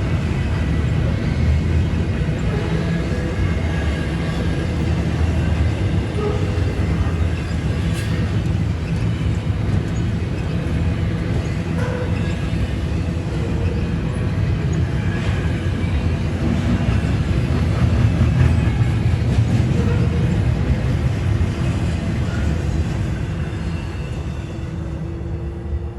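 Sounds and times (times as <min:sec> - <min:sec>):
freight train rumbling past: 0:00.0 - 0:25.9.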